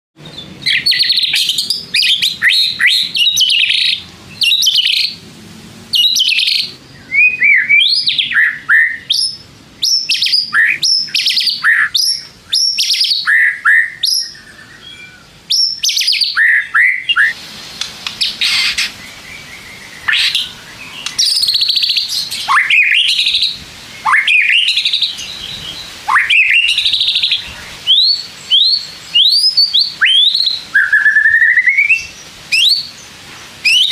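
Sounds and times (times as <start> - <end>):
bird singing whistles and chatter: 0.2 - 5.2, 5.9 - 33.9.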